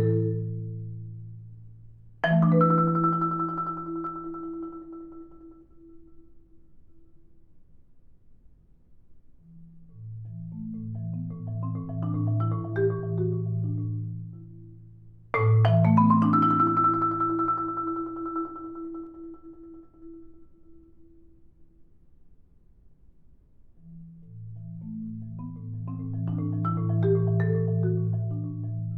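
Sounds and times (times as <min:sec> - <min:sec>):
solo marimba: 0:00.0 - 0:06.5, 0:09.4 - 0:21.2, 0:23.8 - 0:28.9.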